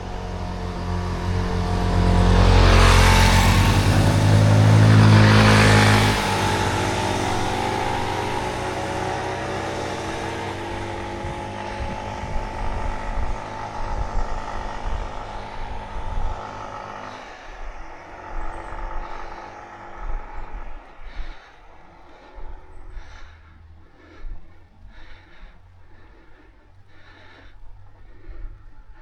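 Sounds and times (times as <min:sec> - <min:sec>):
vehicle driving away: 0:00.0 - 0:29.0
wind buffeting microphone: 0:01.3 - 0:29.0.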